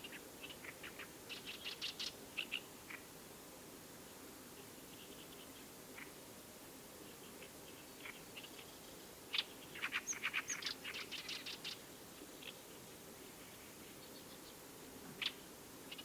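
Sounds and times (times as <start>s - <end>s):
small bird chirping: 0.0s - 3.1s, 4.5s - 6.2s, 7.0s - 16.0s.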